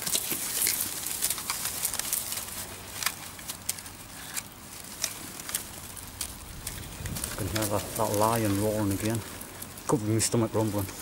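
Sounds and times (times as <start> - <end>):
dry reeds rustling and snapping: 0.0 - 11.0.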